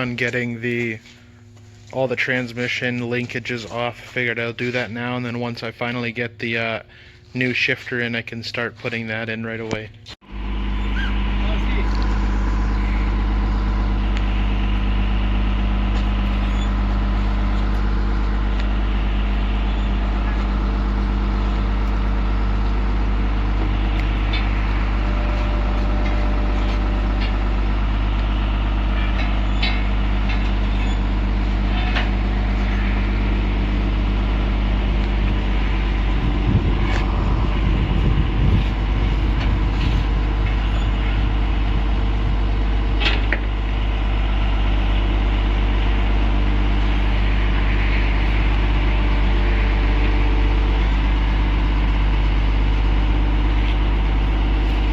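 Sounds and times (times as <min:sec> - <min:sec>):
heavy engine idling: 0:00.0 - 0:08.0, 0:09.9 - 0:54.9.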